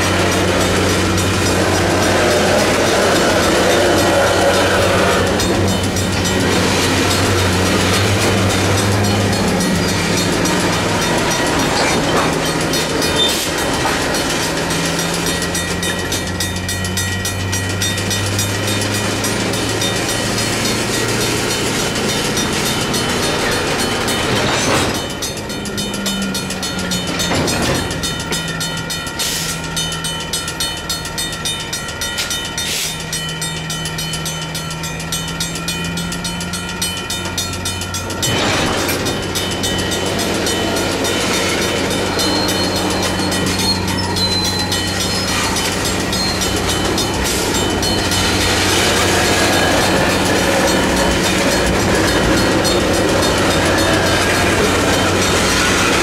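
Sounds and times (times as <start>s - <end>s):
diesel locomotive engine running: 0.0s - 56.0s
railcars rolling: 0.0s - 56.0s.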